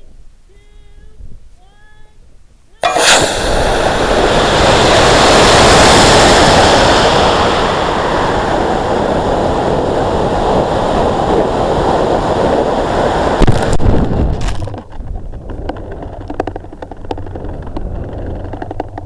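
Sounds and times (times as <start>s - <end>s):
wind buffeting microphone: 3.1s - 19.0s.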